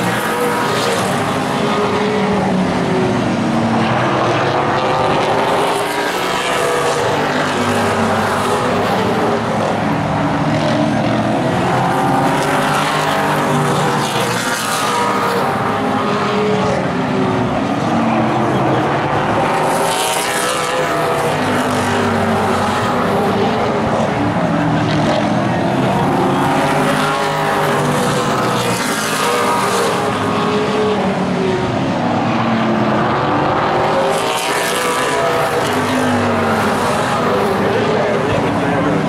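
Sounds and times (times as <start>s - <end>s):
race car engines roaring: 0.0s - 39.0s.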